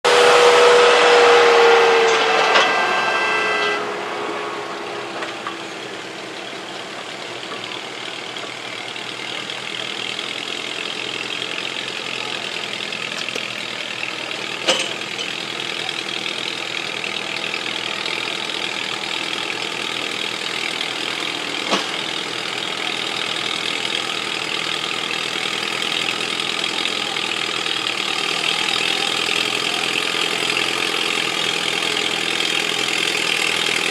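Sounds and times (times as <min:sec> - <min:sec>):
tractor engine running hard: 0:00.0 - 0:33.9
engine idling: 0:00.1 - 0:33.9.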